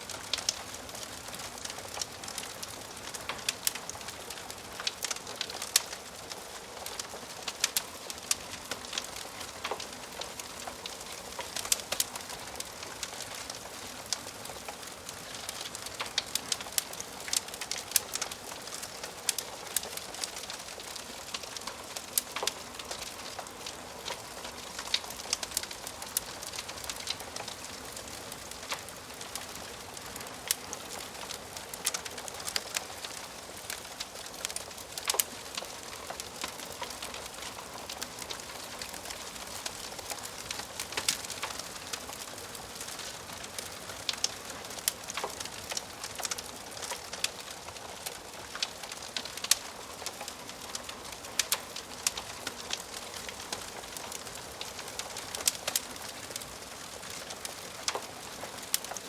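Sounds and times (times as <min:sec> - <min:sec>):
soft steady hiss: 0:00.0 - 0:59.0
wood fire crackling and popping: 0:00.0 - 0:59.0.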